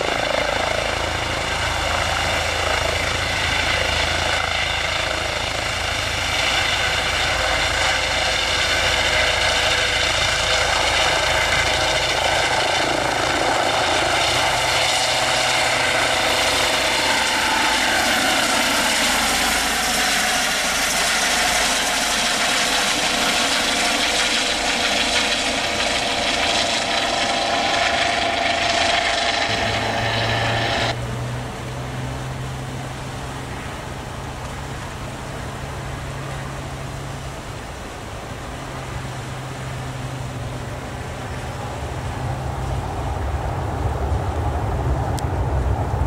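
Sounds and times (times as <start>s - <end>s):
helicopter turbine and rotor: 0.0s - 46.0s.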